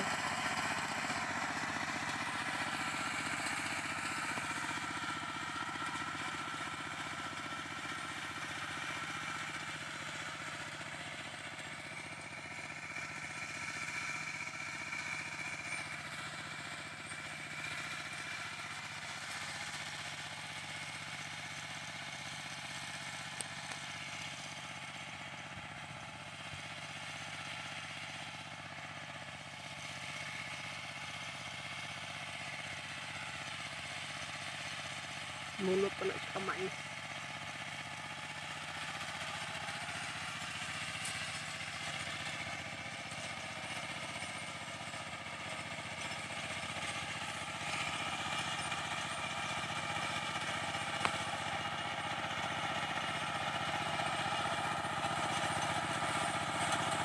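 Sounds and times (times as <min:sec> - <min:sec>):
small tractor engine running: 0:00.0 - 0:57.0.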